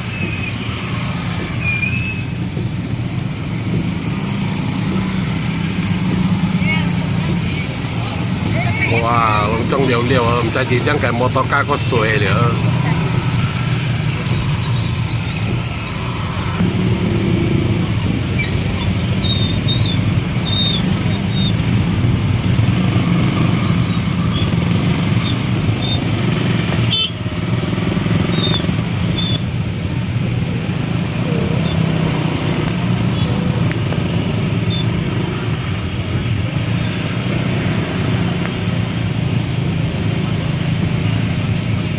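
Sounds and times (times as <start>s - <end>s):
vehicle engine hum: 0.0s - 41.9s
wind: 0.0s - 41.9s.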